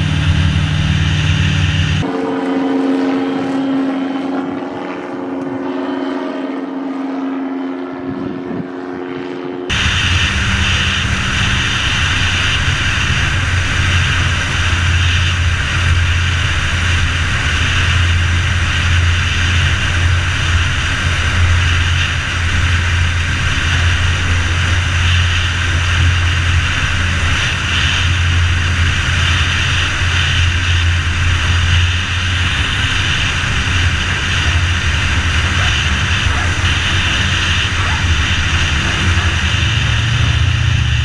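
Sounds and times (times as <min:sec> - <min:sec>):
propeller hiss: 0:00.0 - 0:07.3, 0:07.9 - 0:41.0
aircraft engine drone: 0:00.0 - 0:41.0.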